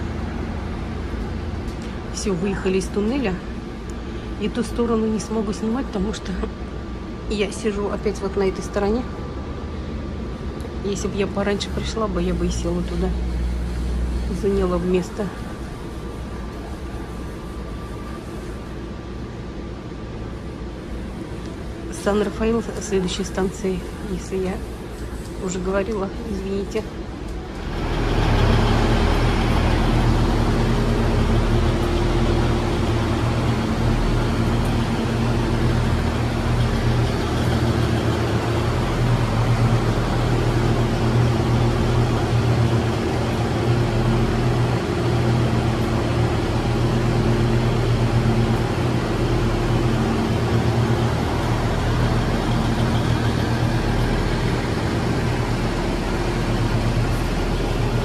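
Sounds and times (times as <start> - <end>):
diesel railcar engine idling: 0.0 - 58.0.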